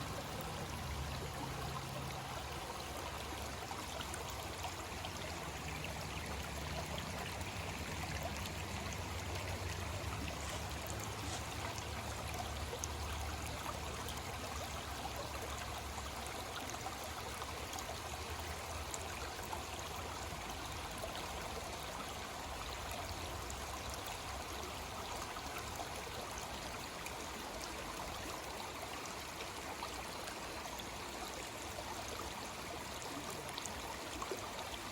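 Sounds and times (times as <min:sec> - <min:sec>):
creek water flowing: 0:00.0 - 0:34.9.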